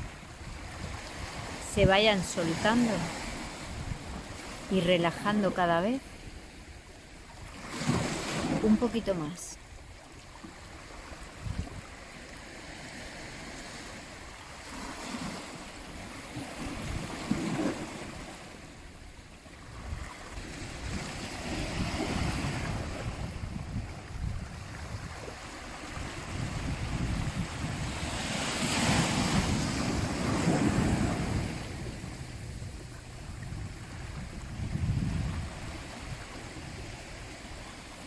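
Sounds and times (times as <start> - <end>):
sea waves washing onto shore: 0.0 - 38.0.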